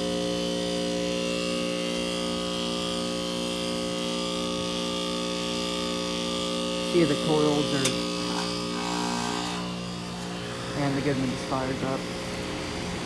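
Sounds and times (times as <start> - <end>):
heat pump compressor and fan hum: 0.0 - 13.0.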